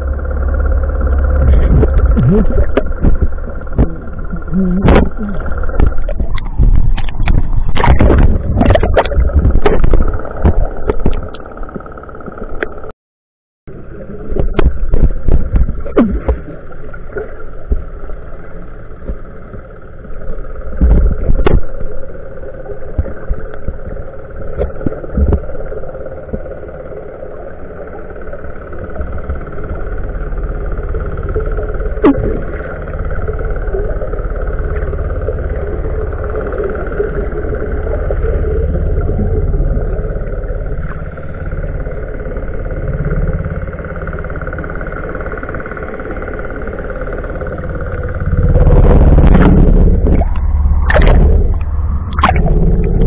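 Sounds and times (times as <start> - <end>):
steady hum: 0.0 - 12.9, 13.7 - 53.0
water churning and bubbling: 0.0 - 12.9, 13.7 - 53.0
underwater knocks and clicks: 0.9 - 12.9, 14.2 - 53.0.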